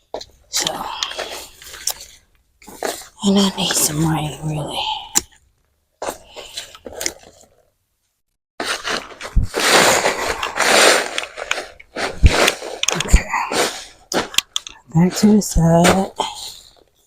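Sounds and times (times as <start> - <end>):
soil crunching and scraping: 0.0 - 7.7, 8.6 - 17.0.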